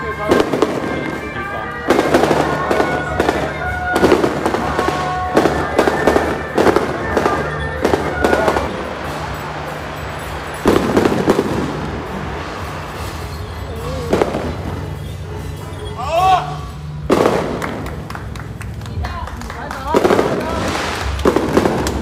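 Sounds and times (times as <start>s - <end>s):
festival music: 0.0s - 22.0s
firecrackers banging: 0.0s - 22.0s.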